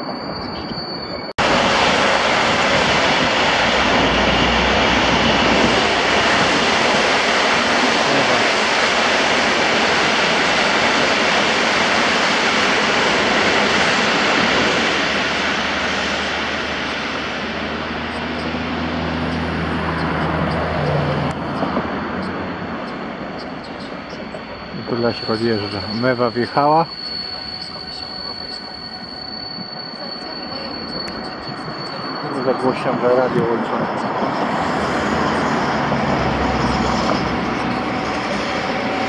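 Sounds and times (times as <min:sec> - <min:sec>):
passenger train rumbling past: 0:00.0 - 0:39.0.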